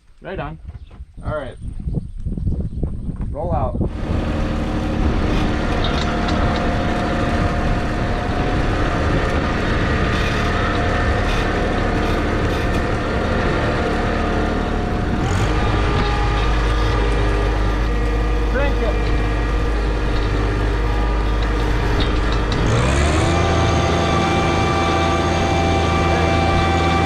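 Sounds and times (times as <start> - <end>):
tractor diesel engine running: 3.9 - 27.0.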